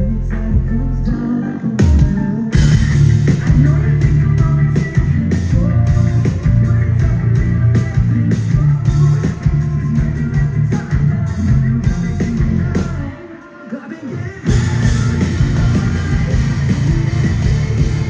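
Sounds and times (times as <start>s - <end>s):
rock band playing live: 0.0s - 18.0s
steady drumbeat: 1.8s - 13.0s, 14.4s - 18.0s.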